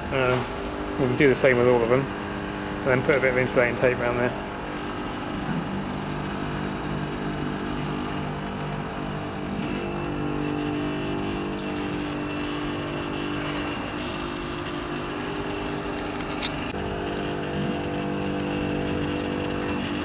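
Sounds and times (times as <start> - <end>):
air-conditioning units humming: 0.0 - 20.0.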